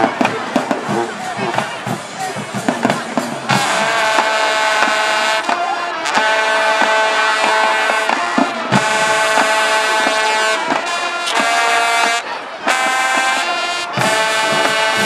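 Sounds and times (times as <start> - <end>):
drum hits: 0.0 - 12.1, 12.7 - 15.0
brass chords: 0.0 - 15.0.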